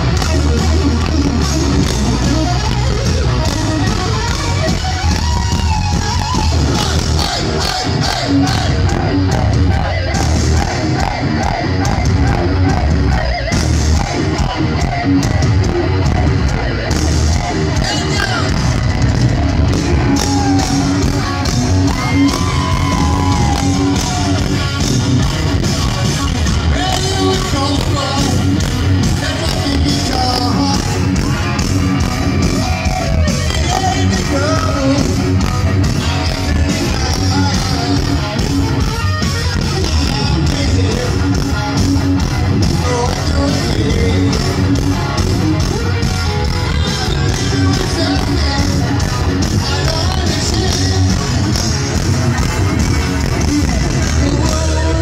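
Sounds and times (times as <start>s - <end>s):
fans yelling: 0.0s - 55.0s
rock band playing live: 0.0s - 55.0s.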